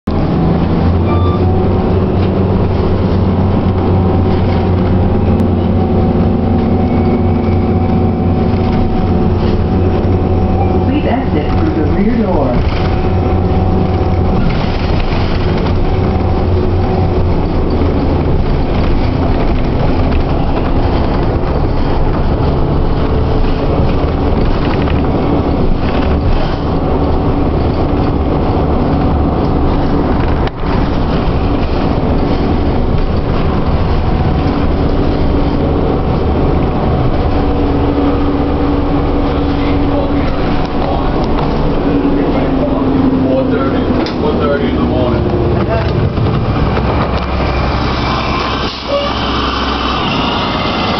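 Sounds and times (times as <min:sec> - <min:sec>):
bus engine and road drone: 0:00.0 - 0:50.9
low humming tone shifting pitch: 0:00.1 - 0:50.9.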